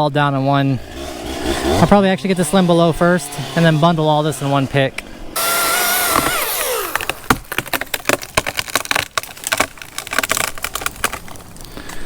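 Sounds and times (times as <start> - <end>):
branches cracking and rustling: 0.6 - 12.0.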